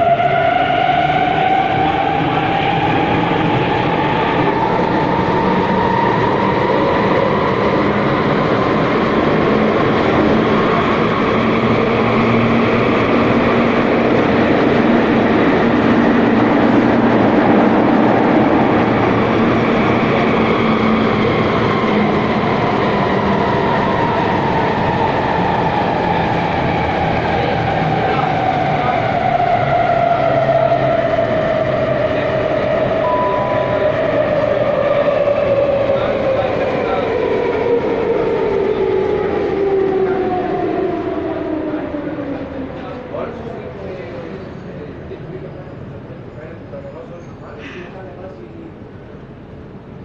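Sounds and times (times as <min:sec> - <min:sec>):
whining train tone: 0:00.0 - 0:44.9
train rumbling through tunnel: 0:00.0 - 0:50.0.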